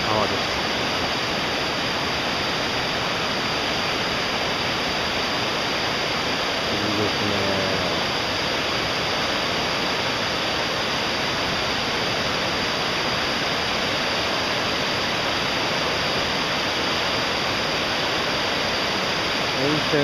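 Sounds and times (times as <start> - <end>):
river rushing over boulders: 0.0 - 20.0.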